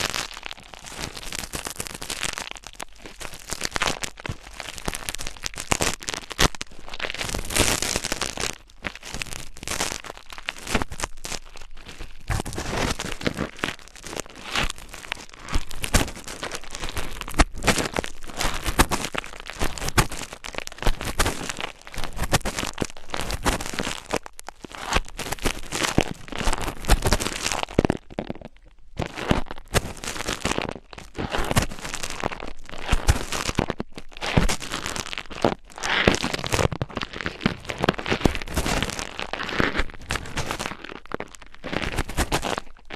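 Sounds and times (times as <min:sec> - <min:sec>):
asmr scratching and crinkling: 0:00.0 - 0:42.9.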